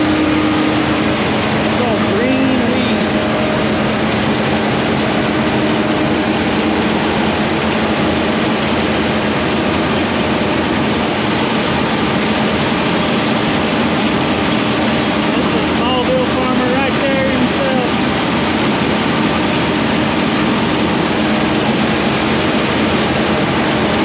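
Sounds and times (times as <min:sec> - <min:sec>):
large engine running: 0:00.0 - 0:24.0.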